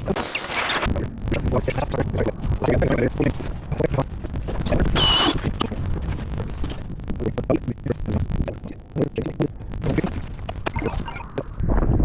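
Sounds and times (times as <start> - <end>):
wind buffeting microphone: 0.8 - 12.0.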